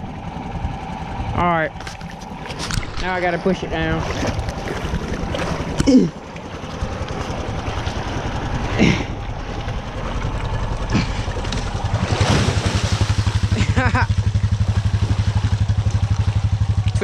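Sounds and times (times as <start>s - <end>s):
four-wheeler engine putter: 0.0s - 17.0s.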